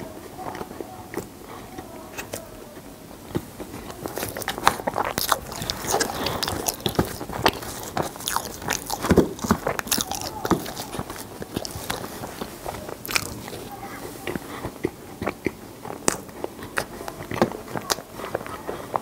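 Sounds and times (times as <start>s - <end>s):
mouth chewing sounds: 0.0s - 19.0s
plastic spoon scraping ice cream: 3.7s - 19.0s.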